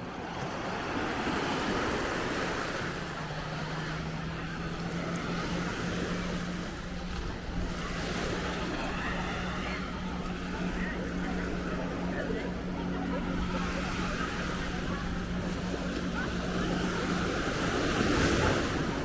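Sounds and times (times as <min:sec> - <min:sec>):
ocean surf washing on beach: 0:00.0 - 0:19.0
wind buffeting microphone: 0:02.0 - 0:19.0
low hum: 0:02.9 - 0:19.0.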